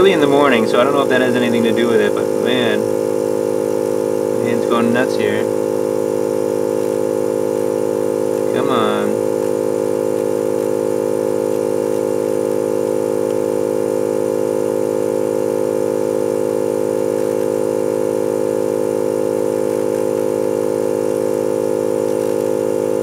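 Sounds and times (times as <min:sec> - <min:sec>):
hot air gun blower humming: 0:00.0 - 0:23.0.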